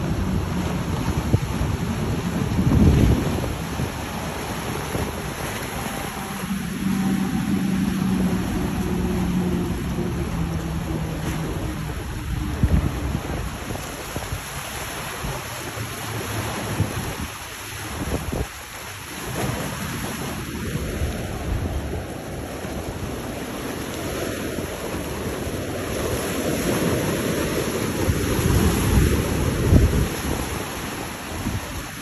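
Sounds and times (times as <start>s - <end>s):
choppy water: 0.0s - 32.0s
wind buffeting microphone: 0.0s - 32.0s.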